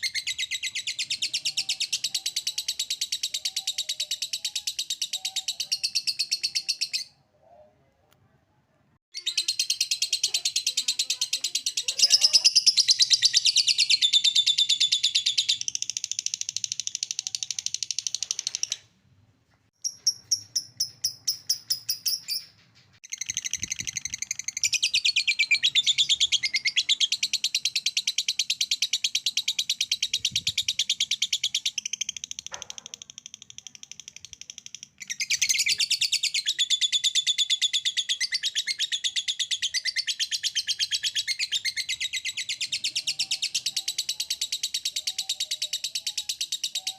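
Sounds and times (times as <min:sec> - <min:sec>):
bird chirps: 0:00.0 - 0:07.3, 0:09.1 - 0:18.9, 0:19.8 - 0:46.9.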